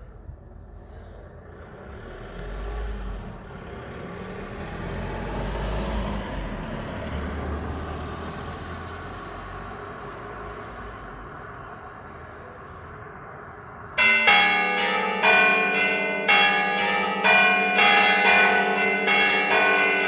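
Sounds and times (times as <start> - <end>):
vehicle passing by: 0.7 - 20.0.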